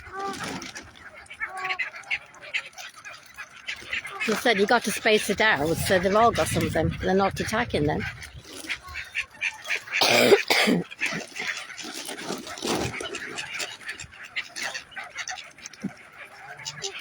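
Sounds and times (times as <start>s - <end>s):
waterbirds calling: 0.0s - 17.0s.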